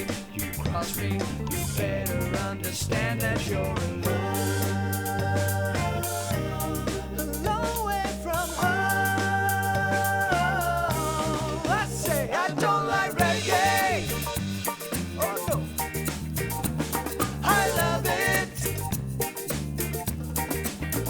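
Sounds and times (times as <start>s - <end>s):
reggae band playing: 0.0s - 21.0s.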